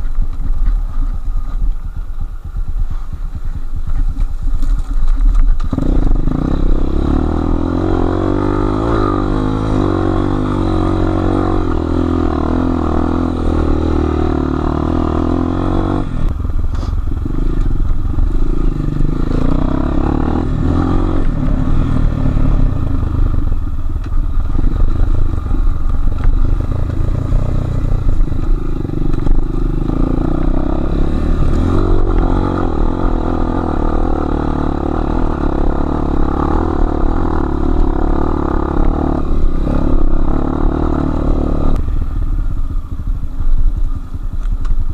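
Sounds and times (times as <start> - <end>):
motorcycle engine revving: 1.5 - 44.6.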